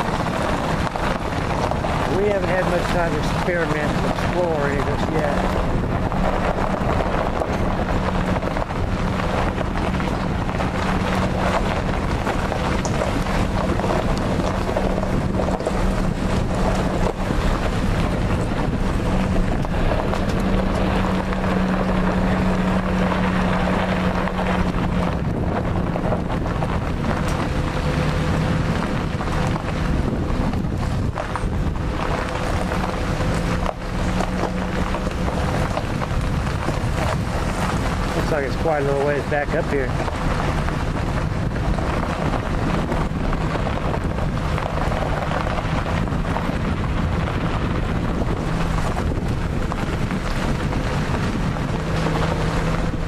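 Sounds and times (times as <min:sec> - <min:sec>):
vehicle engine humming: 0:00.0 - 0:53.0
wind on microphone: 0:00.0 - 0:53.0.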